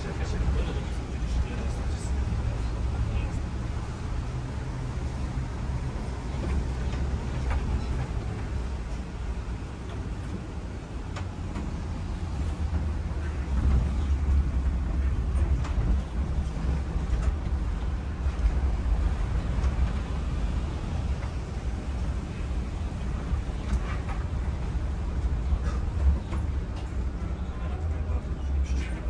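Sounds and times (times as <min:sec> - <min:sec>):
bus rumbling on road: 0:00.0 - 0:29.0.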